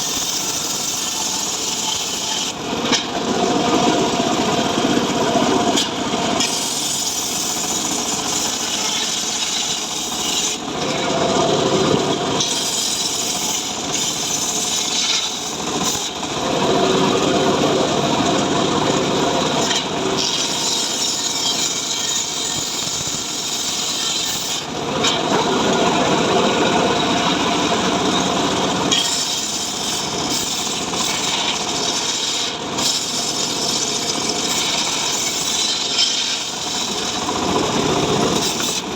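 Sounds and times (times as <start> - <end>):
saw rasping through wood: 0.0 - 38.9.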